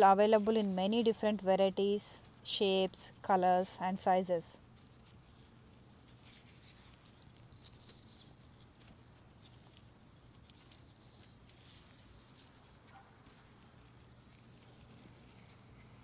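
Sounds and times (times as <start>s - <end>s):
gloved hand rustling soil: 0.0s - 16.0s.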